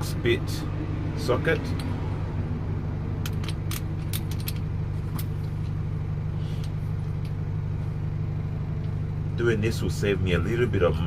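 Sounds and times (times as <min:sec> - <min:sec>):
low vehicle engine drone: 0:00.0 - 0:11.0.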